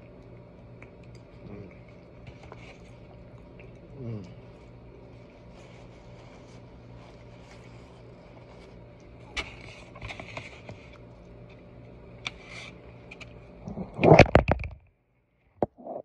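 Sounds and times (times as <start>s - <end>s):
quiet chewing: 0.0s - 13.9s
low room hum: 0.0s - 16.0s.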